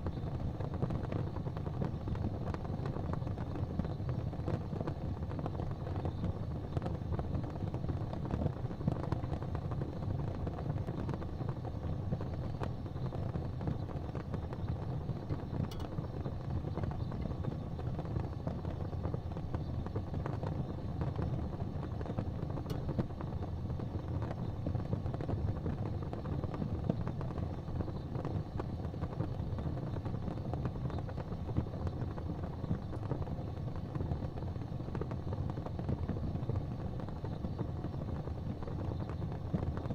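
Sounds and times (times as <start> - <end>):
fire burning in fireplace: 0.0 - 39.9.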